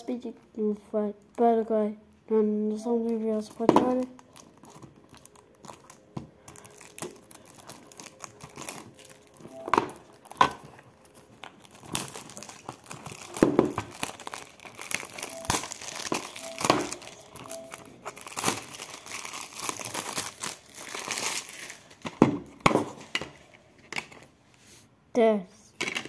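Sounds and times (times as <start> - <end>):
plastic shrink-wrap crinkling: 2.9 - 24.3.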